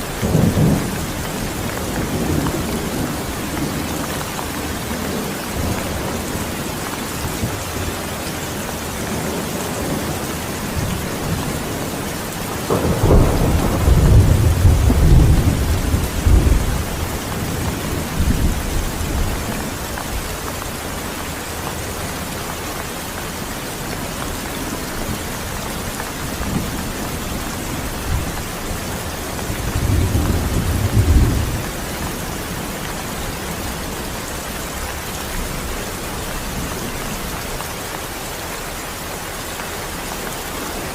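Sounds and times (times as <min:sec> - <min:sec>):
thunder rumbling: 0:00.0 - 0:21.0, 0:23.9 - 0:37.4
heavy rain: 0:00.0 - 0:40.9.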